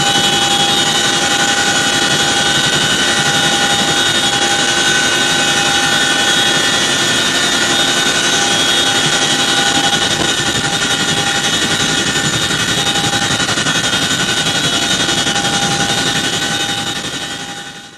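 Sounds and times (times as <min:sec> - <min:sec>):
helicopter rotor and engine rush: 0:00.0 - 0:17.9
high turbine whine: 0:00.0 - 0:17.9.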